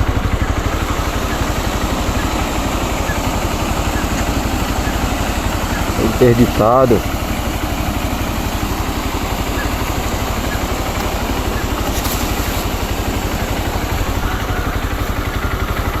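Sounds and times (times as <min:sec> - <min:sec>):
vehicle engine idling: 0:00.0 - 0:16.0
steady hiss: 0:00.6 - 0:15.3.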